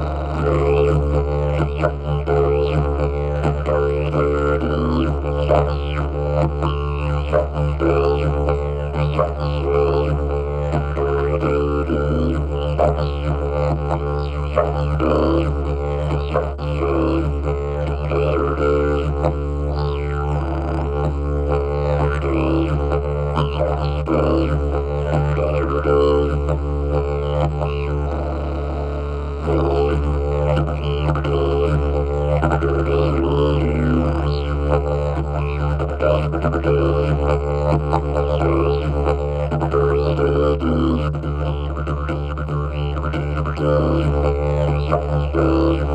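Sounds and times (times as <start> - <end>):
didgeridoo drone: 0.0 - 45.9.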